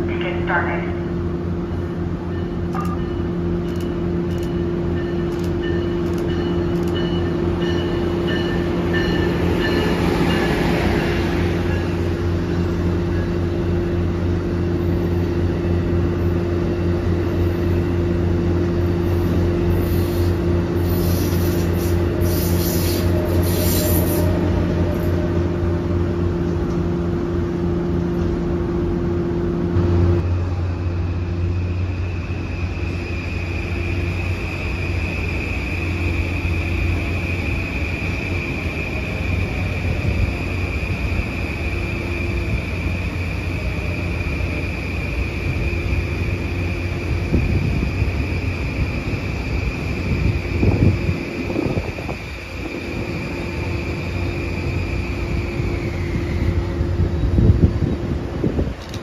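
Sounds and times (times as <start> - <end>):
train wheels rushing on rails: 1.3 - 59.0.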